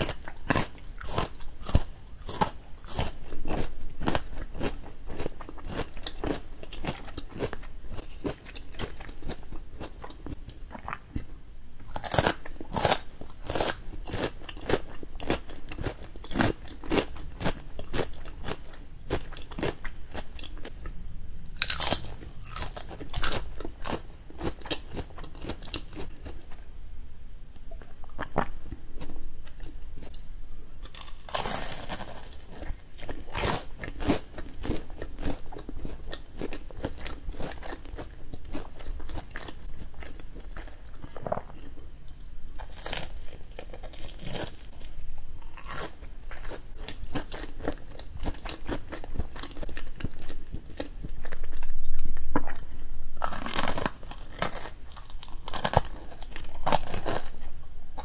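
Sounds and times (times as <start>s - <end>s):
radish crunching between teeth: 0.0s - 26.4s, 30.8s - 58.0s
biting and chewing fried batter: 0.0s - 26.6s, 30.8s - 41.8s, 42.5s - 58.0s.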